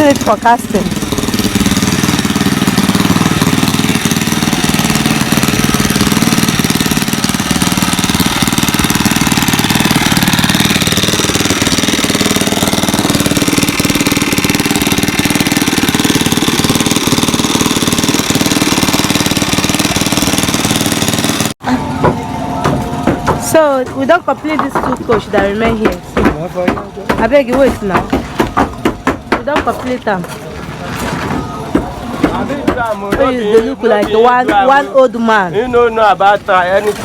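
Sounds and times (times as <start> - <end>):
construction machine engine knocking: 0.0 - 30.0.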